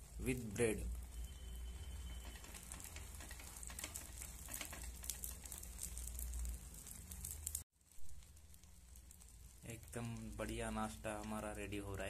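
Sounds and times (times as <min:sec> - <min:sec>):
omelette sizzling on griddle: 0:00.0 - 0:12.0.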